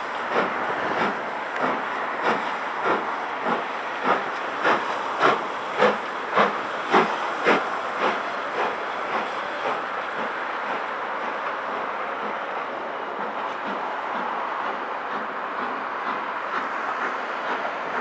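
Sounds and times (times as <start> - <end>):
steam hissing: 0.0 - 18.0
steam locomotive chuffing: 0.0 - 18.0
train rolling: 0.0 - 18.0.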